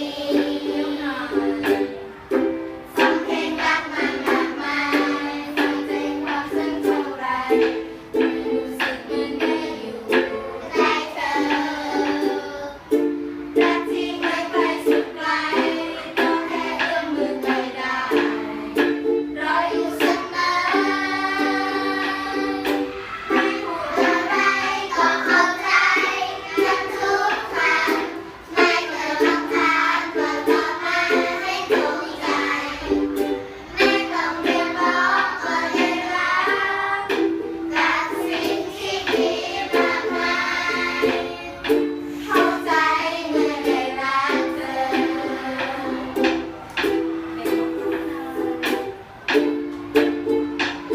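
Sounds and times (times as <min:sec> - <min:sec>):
people singing: 0:00.0 - 0:02.0, 0:03.0 - 0:12.9, 0:13.6 - 0:48.9
strummed ukulele: 0:00.0 - 0:50.9.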